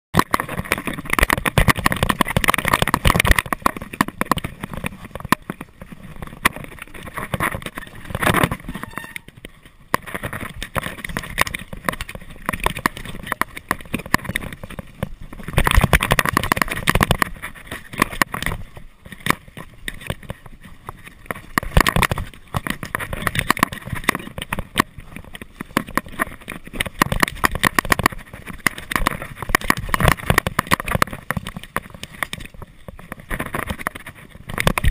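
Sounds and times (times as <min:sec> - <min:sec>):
bike rattling over bumps: 0:00.2 - 0:34.9
bike tyres rolling on dirt: 0:00.2 - 0:34.9.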